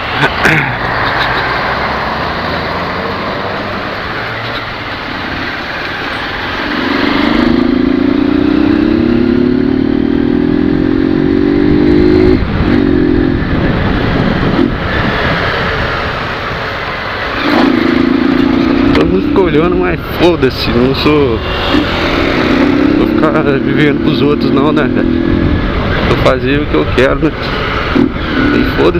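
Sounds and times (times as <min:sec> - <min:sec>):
motorcycle engine running: 0:03.6 - 0:28.9.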